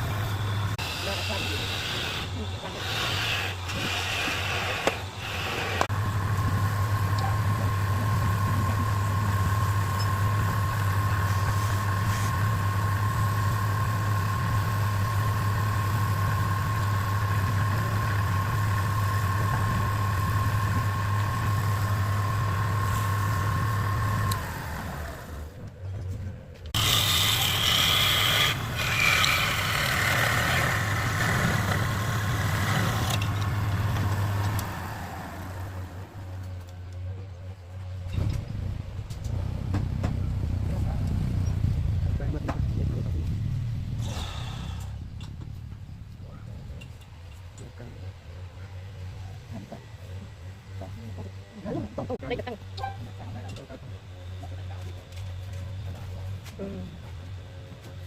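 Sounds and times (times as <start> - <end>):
machine humming and whining: 0.0 - 58.0.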